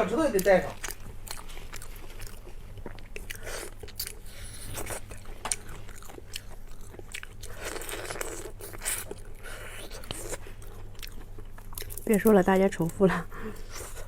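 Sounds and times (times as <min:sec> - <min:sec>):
mouth chewing food: 0:00.0 - 0:14.0.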